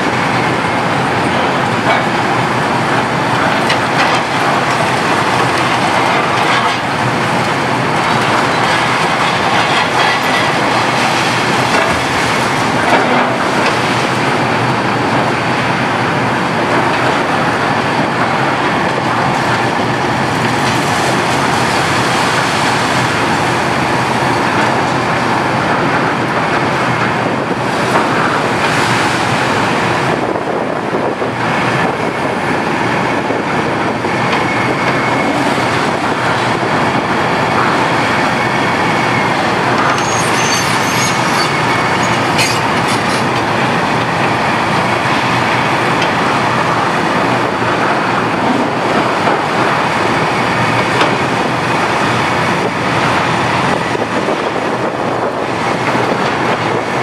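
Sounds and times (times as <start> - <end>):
excavator clattering and rattling: 0.0 - 57.0.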